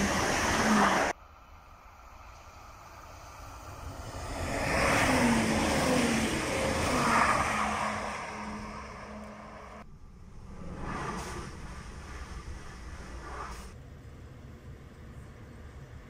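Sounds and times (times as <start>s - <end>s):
train engine hum: 0.0s - 16.0s.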